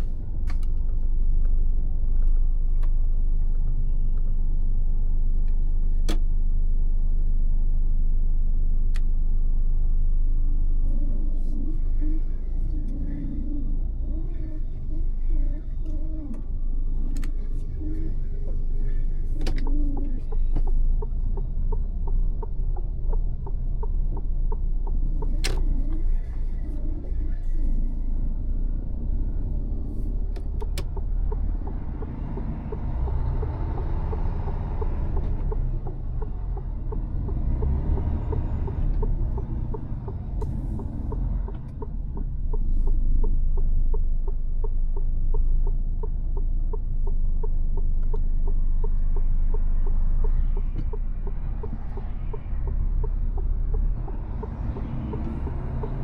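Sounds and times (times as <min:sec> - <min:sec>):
diesel truck engine: 0:00.0 - 0:56.0
road rumble: 0:00.0 - 0:56.0.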